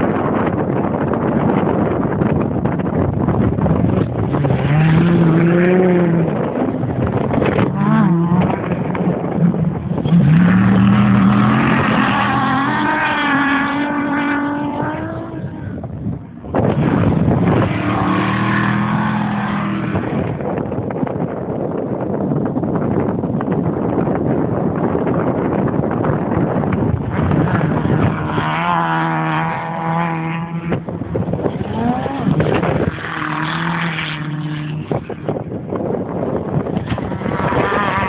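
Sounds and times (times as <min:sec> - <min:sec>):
off-road vehicle engines revving: 0:00.0 - 0:21.1, 0:25.4 - 0:38.0
wind noise on microphone: 0:00.0 - 0:38.0.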